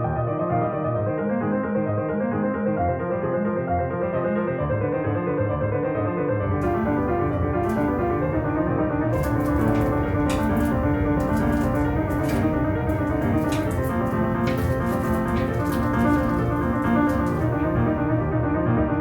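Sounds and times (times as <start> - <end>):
piano background music: 0.0 - 19.0.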